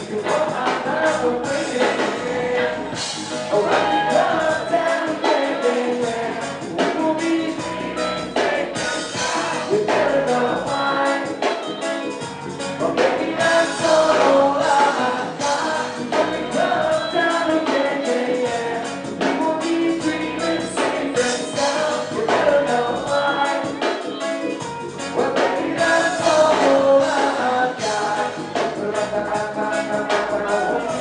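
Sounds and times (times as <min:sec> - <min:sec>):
bass guitar: 0:00.0 - 0:31.0
drums: 0:00.0 - 0:31.0
electric guitar: 0:00.0 - 0:31.0
man singing lead vocal: 0:00.0 - 0:31.0.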